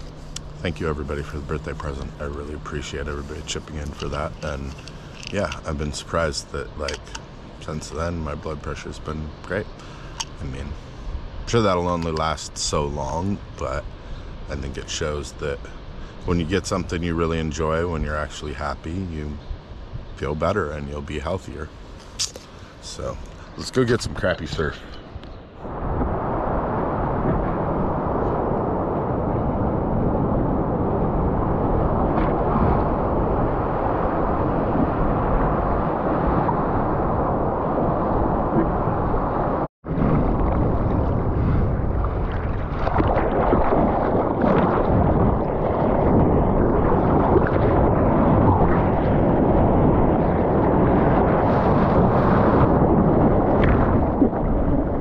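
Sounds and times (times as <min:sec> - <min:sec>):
ocean surf rushing: 0:00.0 - 0:20.0, 0:20.8 - 0:55.0
wind buffeting the microphone: 0:00.0 - 0:55.0.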